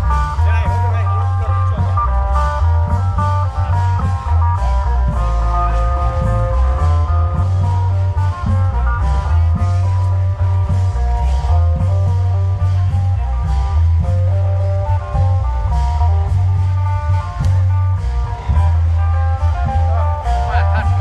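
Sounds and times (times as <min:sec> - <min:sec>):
amplified plucked-string melody: 0:00.0 - 0:21.0
heavy bass: 0:00.0 - 0:21.0.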